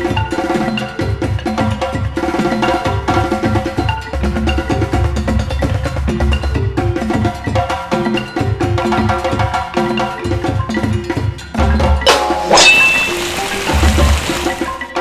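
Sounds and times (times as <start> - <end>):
upbeat percussive music: 0.0 - 15.0.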